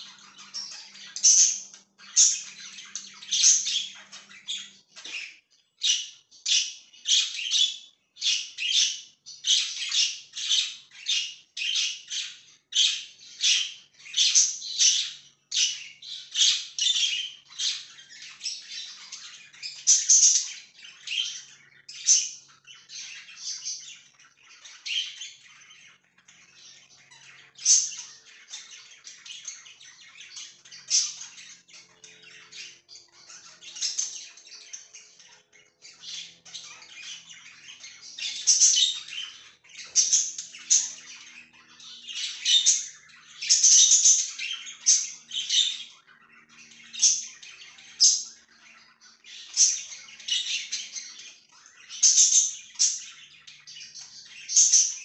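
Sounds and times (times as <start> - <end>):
budgerigars chirping and chattering: 0.0 - 55.0.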